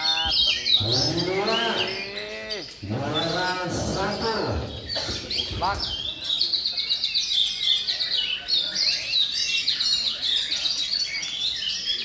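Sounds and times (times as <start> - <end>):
bird singing chirping trills: 0.0 - 12.0.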